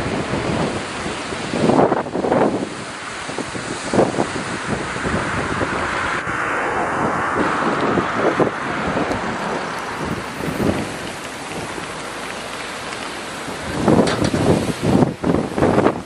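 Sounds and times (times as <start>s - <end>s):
strong wind gusting: 0.0s - 16.0s.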